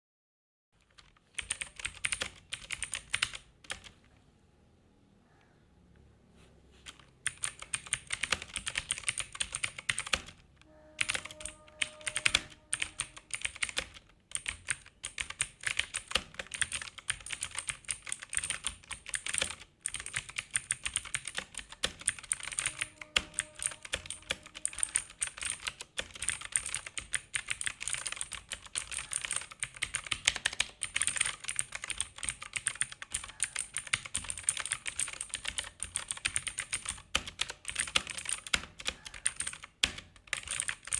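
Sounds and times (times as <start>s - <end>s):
clicky mechanical keyboard typing: 0.8s - 4.2s, 6.8s - 40.9s.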